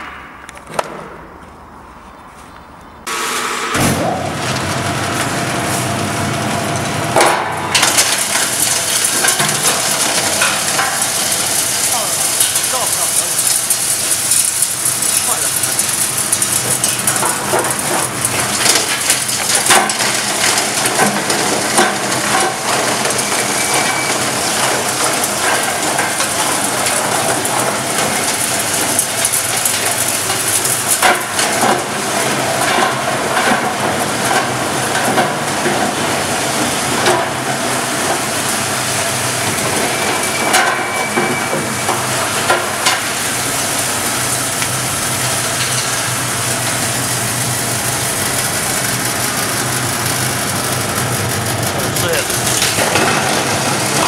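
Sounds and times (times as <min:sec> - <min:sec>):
crusher machine grinding: 0:03.1 - 0:54.0.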